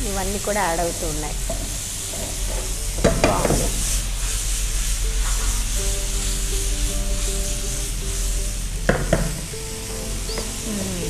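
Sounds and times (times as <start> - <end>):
food sizzling in wok: 0.0 - 11.0.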